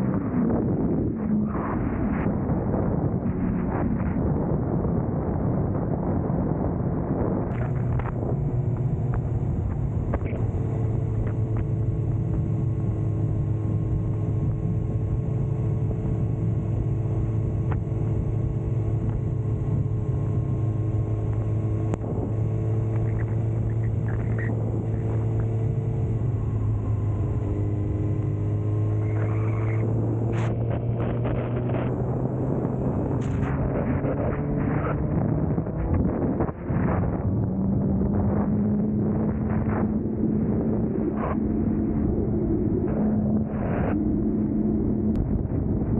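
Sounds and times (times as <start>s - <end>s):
wind and road noise: 0.0s - 45.9s
motorcycle engine cruising: 7.4s - 45.9s.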